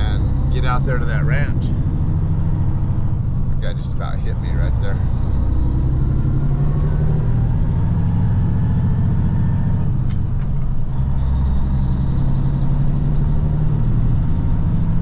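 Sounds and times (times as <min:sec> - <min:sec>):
diesel truck engine drone: 0:00.0 - 0:15.0.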